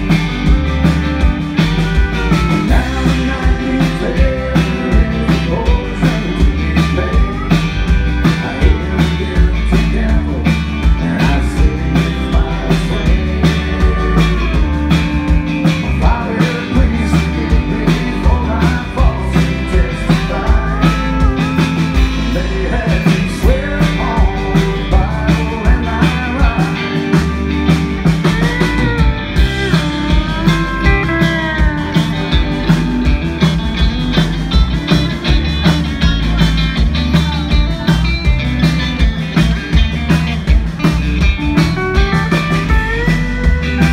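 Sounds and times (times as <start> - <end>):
bass guitar: 0.0 - 43.9
drums on a steady beat: 0.0 - 43.9
electric guitar: 0.0 - 43.9
pedal steel guitar: 0.0 - 43.9.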